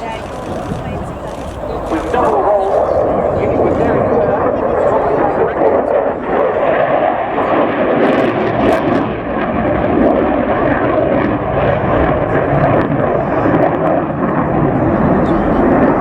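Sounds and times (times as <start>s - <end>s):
aircraft engine passing overhead: 0.0s - 16.0s.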